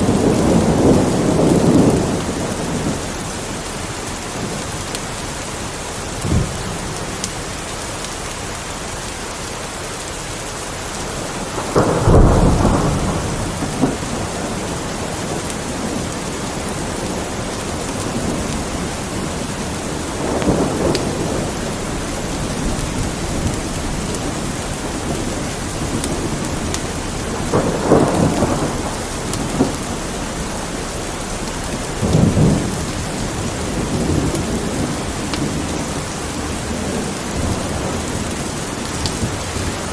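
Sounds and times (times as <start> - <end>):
low rolls of thunder: 0.0 - 4.7, 6.1 - 7.0, 11.1 - 39.9
steady rain: 0.0 - 39.9.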